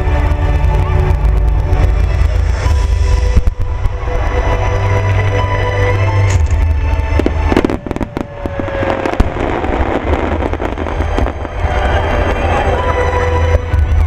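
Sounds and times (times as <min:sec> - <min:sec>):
fireworks bangs and crackles: 0:00.0 - 0:05.3, 0:06.1 - 0:14.0
music with heavy bass: 0:00.0 - 0:14.0.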